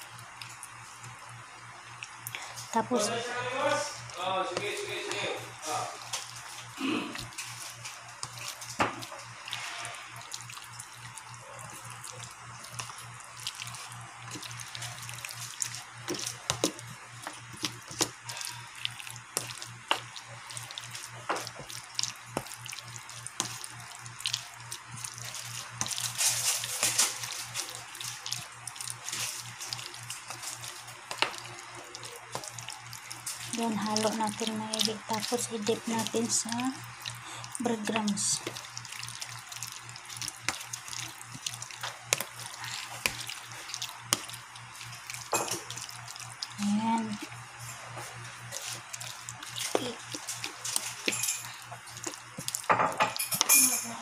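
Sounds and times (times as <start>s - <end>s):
hand mixing wet batter: 0.0s - 54.0s.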